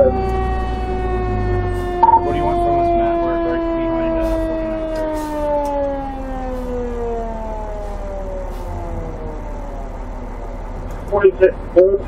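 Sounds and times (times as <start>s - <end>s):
fire truck siren winding down: 0.0s - 11.8s
truck engine rumble: 0.0s - 12.0s.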